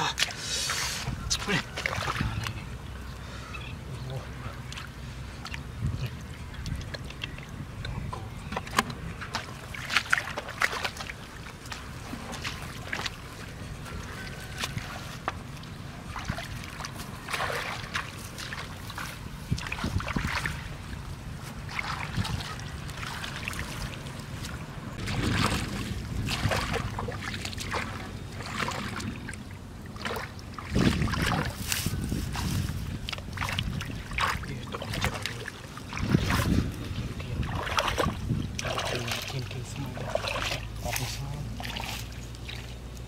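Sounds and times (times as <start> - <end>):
shallow water splashing: 0.2 - 3.0, 4.5 - 43.0.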